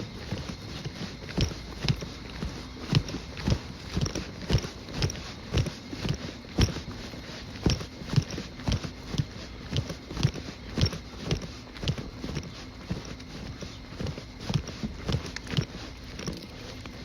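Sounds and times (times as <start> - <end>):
person's footsteps walking: 0.0 - 17.0.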